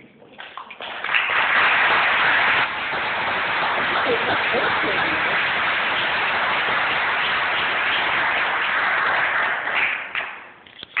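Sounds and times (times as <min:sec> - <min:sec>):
audience applauding: 0:00.7 - 0:10.5.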